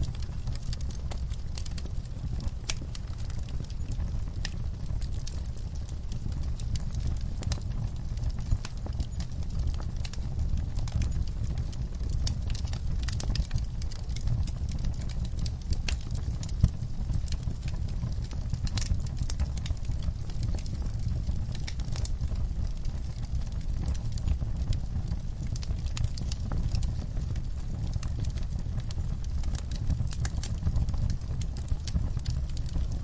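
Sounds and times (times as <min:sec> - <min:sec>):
fire crackling and popping: 0:00.0 - 0:33.0
steady low rumble: 0:00.0 - 0:33.0.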